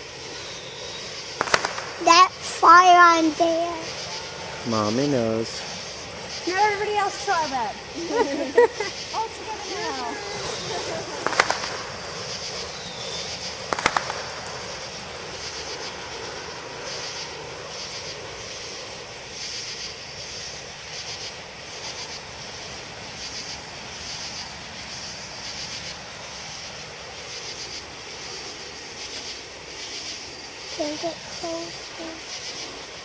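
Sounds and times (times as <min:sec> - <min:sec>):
insects chirping: 0:00.0 - 0:33.0
low rushing background noise: 0:00.0 - 0:33.0.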